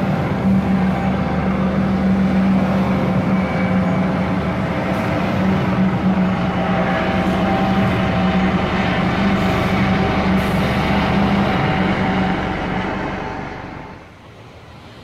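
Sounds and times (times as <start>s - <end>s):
train wheel and track rumble: 0.0s - 15.0s.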